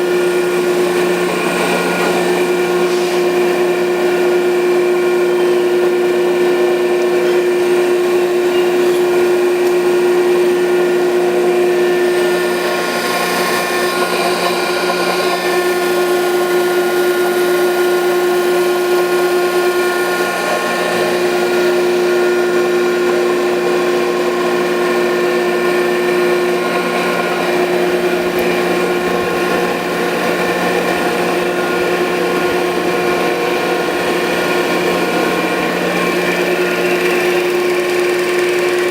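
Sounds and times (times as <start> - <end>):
grinder motor hum and whine: 0.0 - 38.9.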